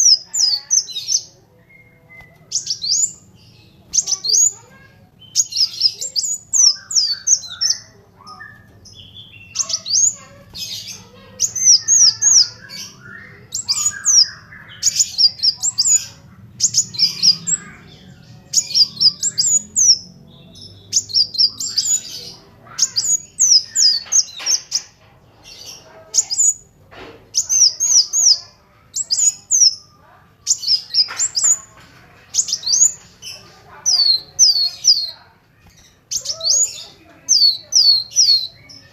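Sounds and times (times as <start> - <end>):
soft bird twittering: 0.0 - 38.9
sunbird high chirps: 0.0 - 38.9.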